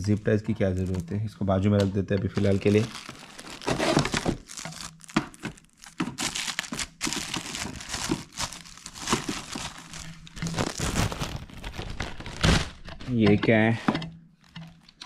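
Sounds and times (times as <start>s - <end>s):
plastic bag crinkling: 0.0s - 1.2s, 2.4s - 13.2s.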